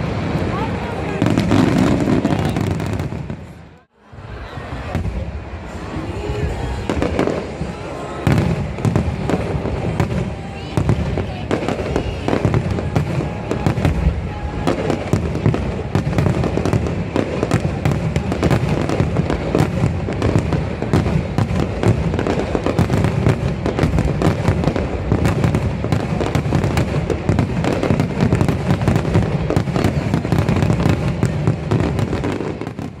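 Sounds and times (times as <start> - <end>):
fireworks booming and crackling: 0.0 - 33.0.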